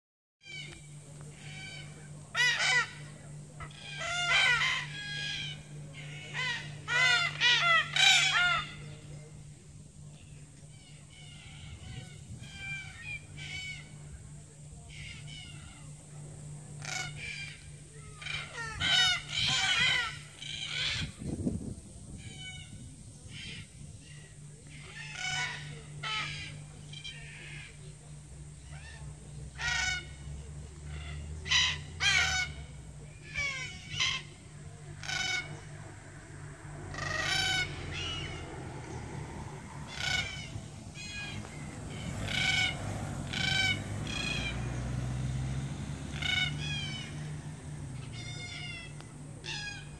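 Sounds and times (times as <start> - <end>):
flock of cockatoos calling: 0.4 - 21.4, 22.0 - 49.9.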